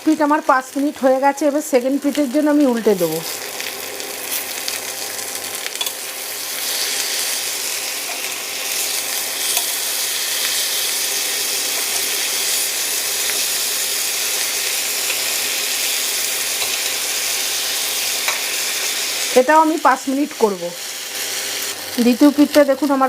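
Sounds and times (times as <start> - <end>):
chicken sizzling on a grill pan: 0.0 - 23.0.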